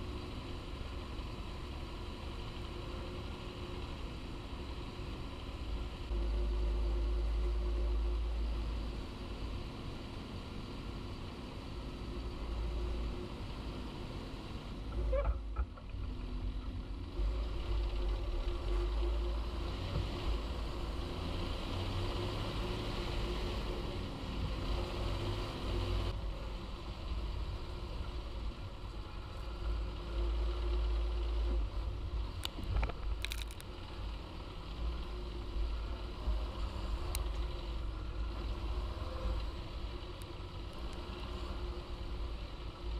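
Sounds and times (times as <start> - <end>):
tractor diesel engine rumbling: 0.0 - 42.9.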